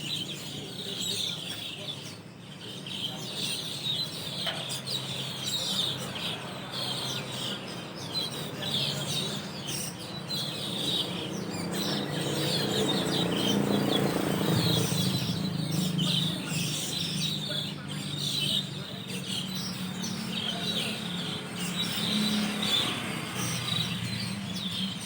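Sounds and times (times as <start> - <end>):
flock of starlings chirping: 0.0 - 25.0.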